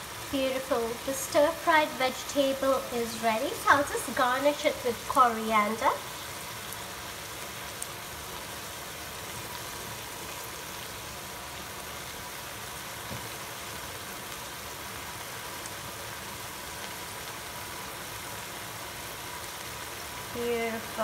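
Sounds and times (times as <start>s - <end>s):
vegetables sizzling in a frying pan: 0.0s - 21.0s.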